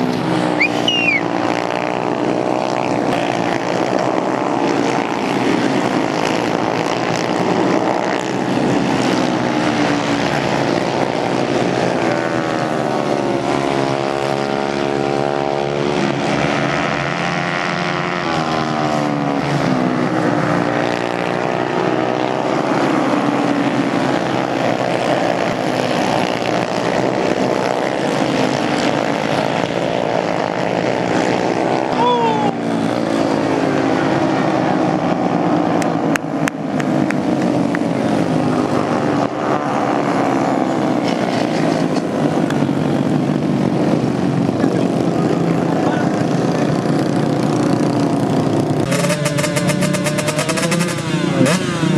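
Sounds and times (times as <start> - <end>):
racing motorcycle engines: 0.0 - 51.9.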